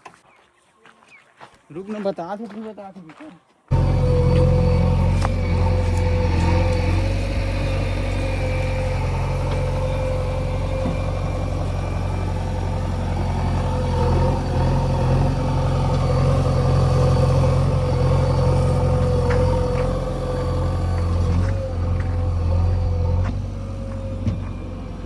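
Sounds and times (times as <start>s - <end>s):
diesel engine droning: 3.7s - 25.0s
steady engine whine: 3.7s - 25.0s.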